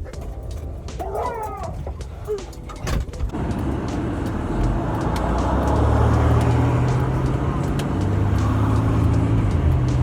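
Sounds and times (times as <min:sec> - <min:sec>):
car engine and road noise: 0:00.2 - 0:10.0.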